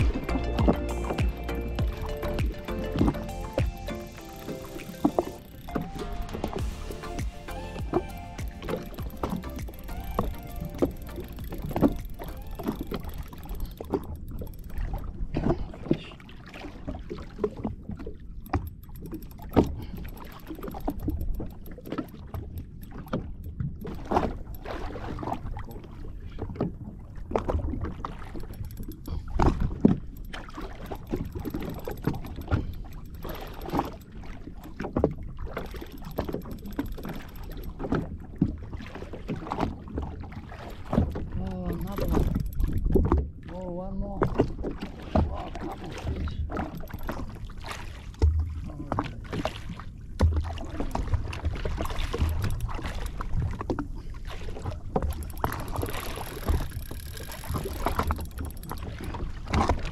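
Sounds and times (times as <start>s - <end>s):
small waves slapping a hull: 0.0s - 59.9s.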